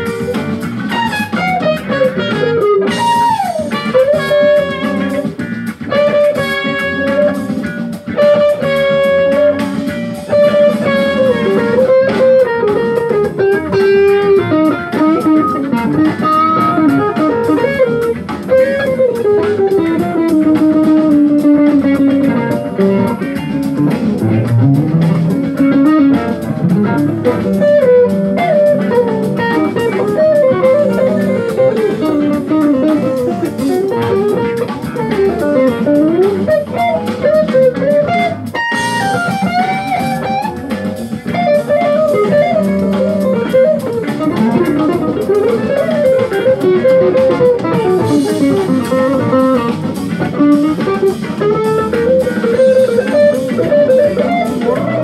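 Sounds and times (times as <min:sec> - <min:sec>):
electric guitar playing fusion lines: 0:00.0 - 0:55.0.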